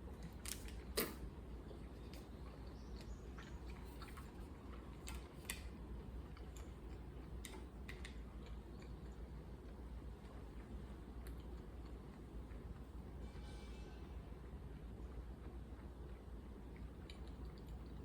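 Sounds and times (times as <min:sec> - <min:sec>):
low steady hum: 0:00.0 - 0:18.0
soft chewing clicks and taps: 0:00.2 - 0:12.9, 0:14.8 - 0:18.0.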